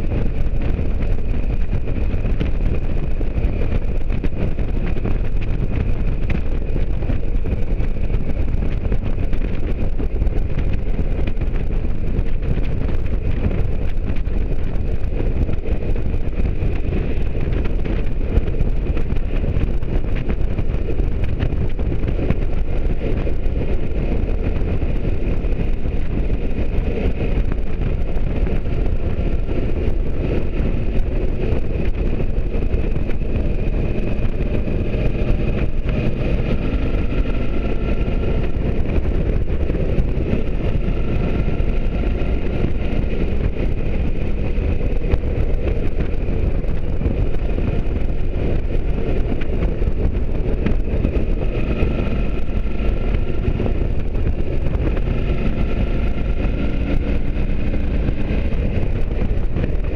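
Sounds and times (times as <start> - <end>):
motorcycle engine cruising: 0.0 - 59.9
wind rushing over microphone: 0.0 - 59.9.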